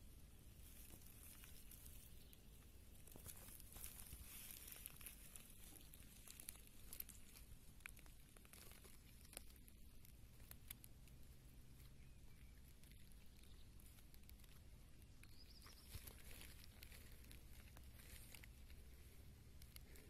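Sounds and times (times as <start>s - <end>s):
faint hiss and hum: 0.0s - 20.0s
faint ticks and rustles: 0.0s - 20.0s.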